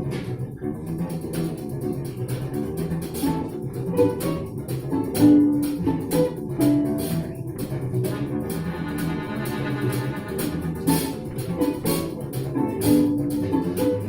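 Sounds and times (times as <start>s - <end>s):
live instrumental ensemble music: 0.0s - 14.0s.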